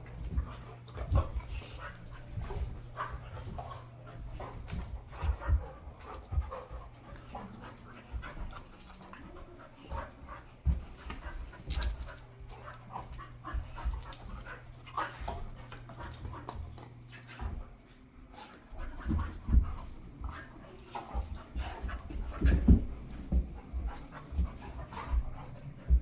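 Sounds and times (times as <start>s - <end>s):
dogs panting: 0.0s - 26.0s
dogs scuffling: 0.0s - 26.0s.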